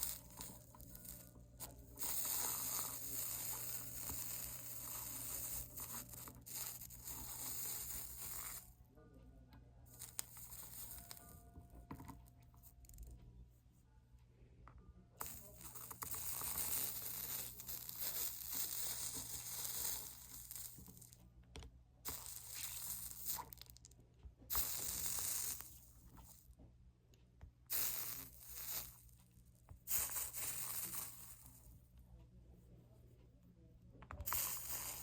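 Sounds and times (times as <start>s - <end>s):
flux sizzling under soldering iron: 0.0s - 8.8s, 9.9s - 13.0s, 15.2s - 26.5s, 27.4s - 31.8s, 34.1s - 35.0s.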